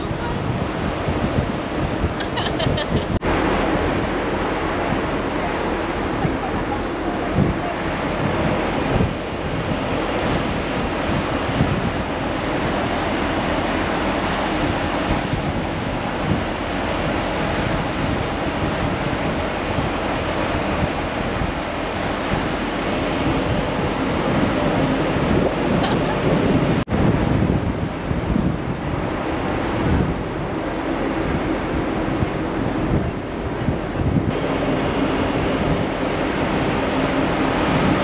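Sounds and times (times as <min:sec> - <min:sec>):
choppy sea rushing: 0:00.0 - 0:38.0
wind across microphone: 0:00.0 - 0:38.0.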